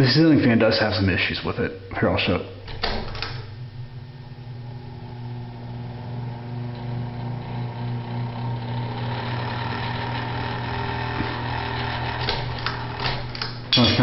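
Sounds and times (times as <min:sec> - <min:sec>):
ceiling fan humming and rattling: 0:00.0 - 0:14.0.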